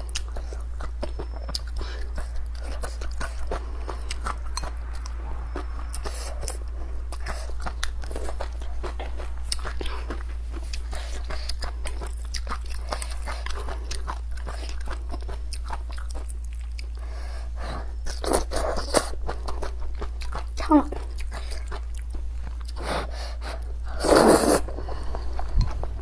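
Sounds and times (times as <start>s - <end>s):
person chewing with mouth smacks: 0.0s - 17.1s, 17.8s - 26.0s
steady low hum: 0.0s - 26.0s.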